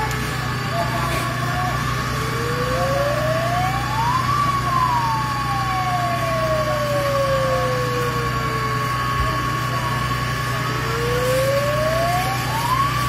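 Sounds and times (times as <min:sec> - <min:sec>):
fire engine siren wailing: 0:00.0 - 0:13.0
low engine drone: 0:00.0 - 0:13.0
steady high tone: 0:00.0 - 0:13.0.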